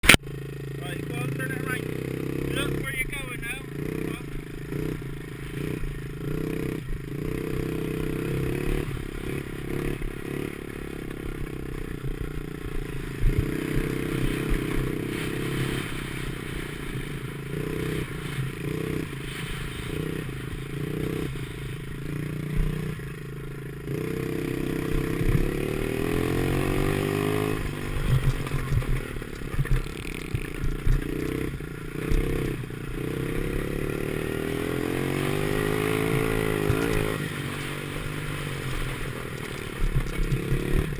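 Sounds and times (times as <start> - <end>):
small motorbike engine revving: 0.0 - 40.9.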